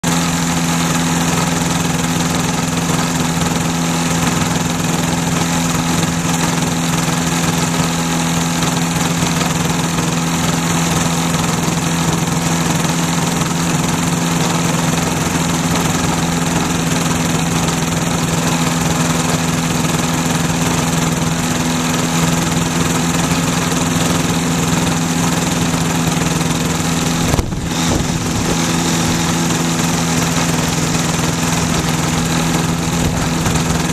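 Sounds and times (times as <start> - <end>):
ultralight aircraft engine idling: 0.0 - 33.9.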